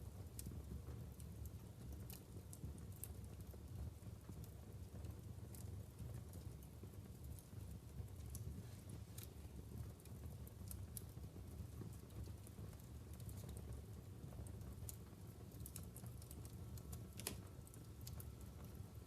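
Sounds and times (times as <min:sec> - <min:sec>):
flames rumbling: 0:00.0 - 0:19.0
logs crackling and popping: 0:00.0 - 0:19.0.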